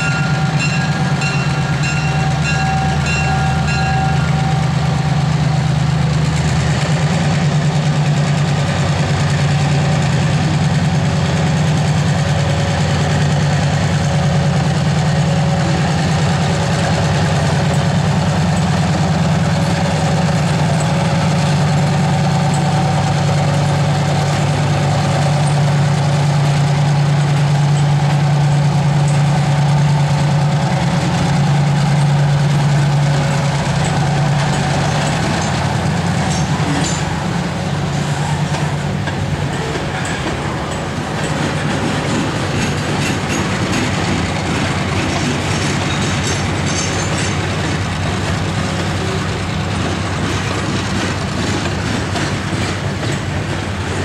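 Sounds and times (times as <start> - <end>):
wheels clacking over rail joints: 0.0 - 54.0.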